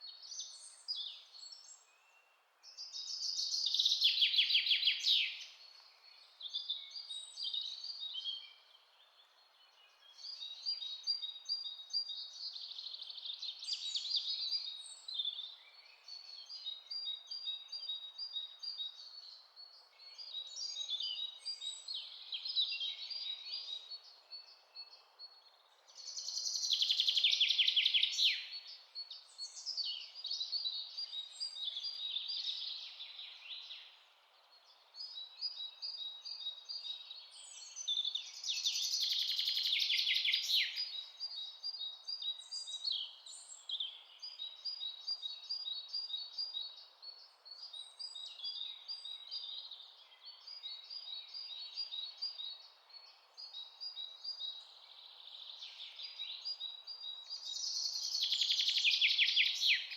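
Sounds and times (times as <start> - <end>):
faint background hiss: 0.0 - 59.9
songbirds singing: 0.0 - 59.9.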